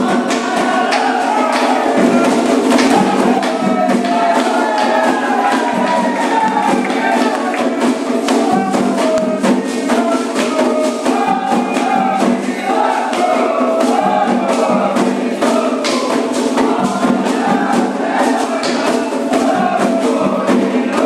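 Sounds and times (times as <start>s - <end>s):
dense steady percussion: 0.0s - 21.0s
group of voices chanting: 0.0s - 21.0s.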